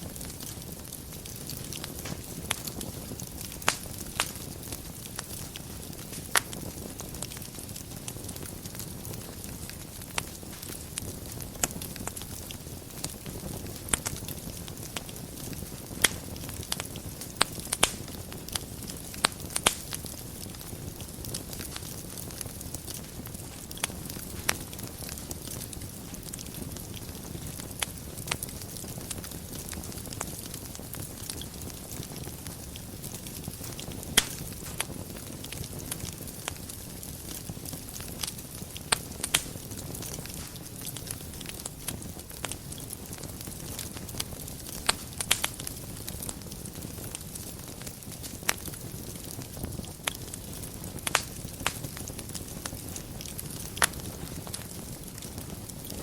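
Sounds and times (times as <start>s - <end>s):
fire crackles and pops: 0.0s - 56.0s
fire flames rustling: 0.0s - 56.0s.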